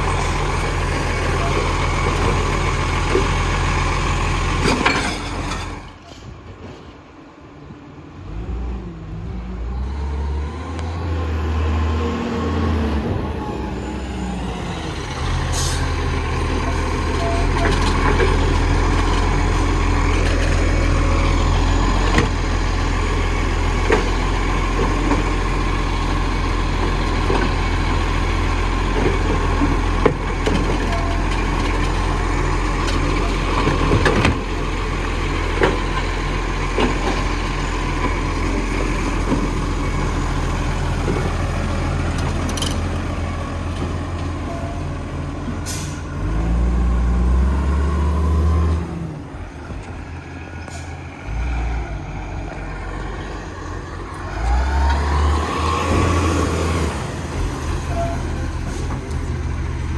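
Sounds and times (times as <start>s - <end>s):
diesel engine running: 0.0s - 6.0s, 10.5s - 59.9s.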